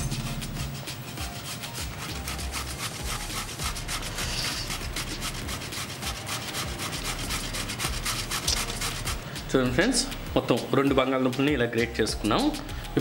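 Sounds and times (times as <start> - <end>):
potato grated on metal grater: 0.1 - 10.8.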